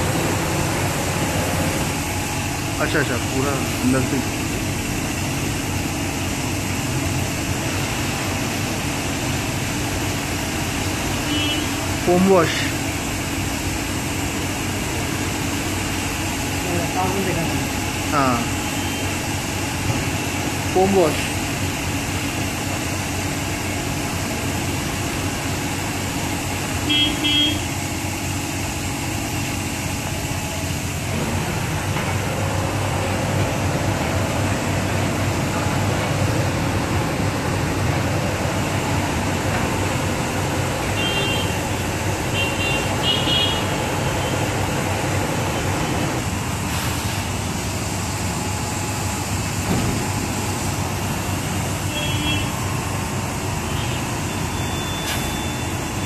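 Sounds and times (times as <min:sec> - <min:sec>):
wash booth spray and machinery: 0:00.0 - 0:56.0.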